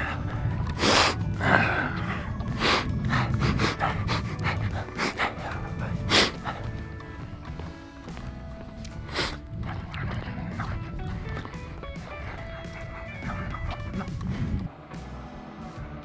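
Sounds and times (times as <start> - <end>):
person breathing hard: 0.0 - 14.7
low rumble: 0.0 - 16.0.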